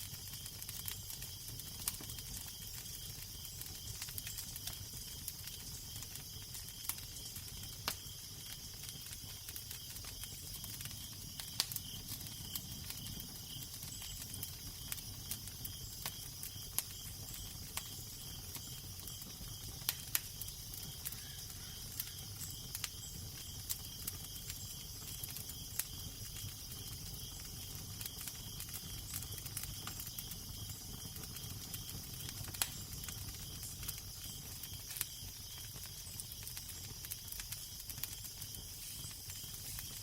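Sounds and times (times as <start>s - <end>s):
fire crackling and popping: 0.0s - 40.0s
fire hissing: 0.1s - 40.0s.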